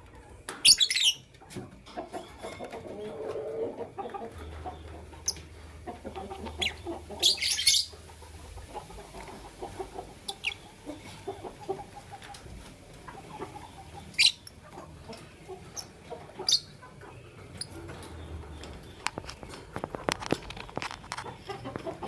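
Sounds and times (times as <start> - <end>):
low bird chatter: 0.0 - 22.0
lovebirds chirping: 0.1 - 22.0.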